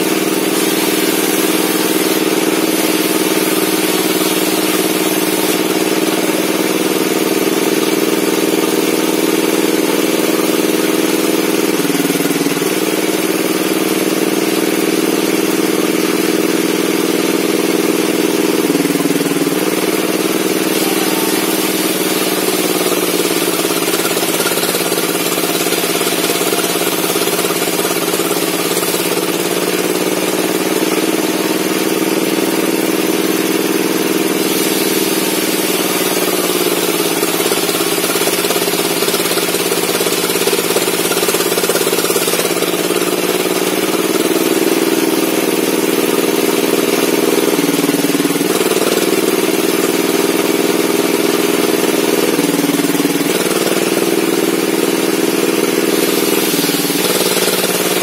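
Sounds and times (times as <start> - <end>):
circular saw cutting a log: 0.0 - 58.0.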